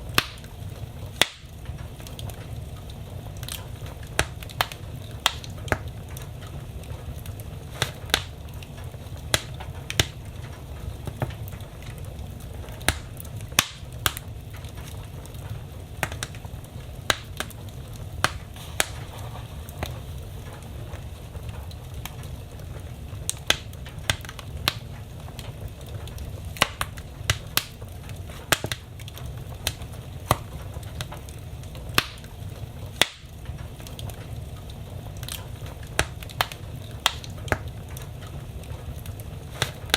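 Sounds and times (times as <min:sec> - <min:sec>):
burning logs crackling and popping: 0:00.0 - 0:39.9
fire flames rumbling: 0:00.0 - 0:39.9.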